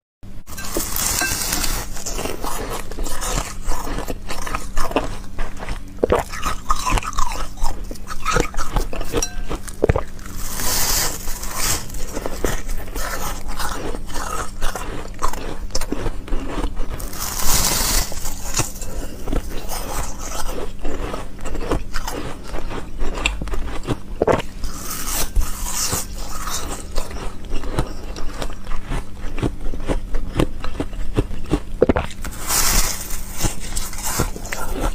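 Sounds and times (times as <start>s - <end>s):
ice crunching while chewed: 0.5s - 34.9s.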